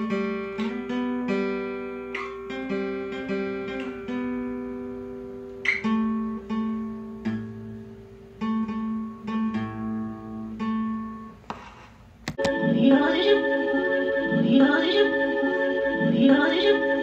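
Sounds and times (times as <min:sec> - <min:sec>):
guitar playing slow chords: 0:00.0 - 0:11.4, 0:12.4 - 0:17.0.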